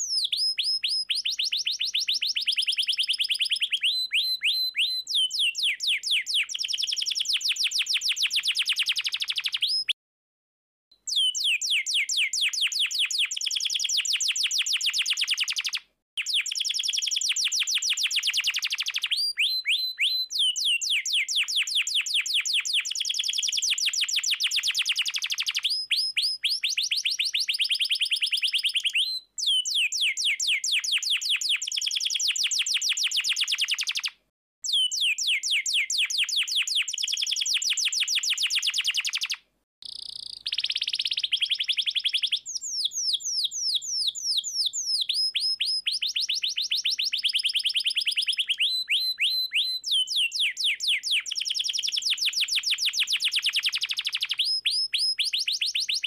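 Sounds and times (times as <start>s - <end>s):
canary singing rolling trills: 0.0s - 10.0s, 11.1s - 34.1s, 34.7s - 56.0s.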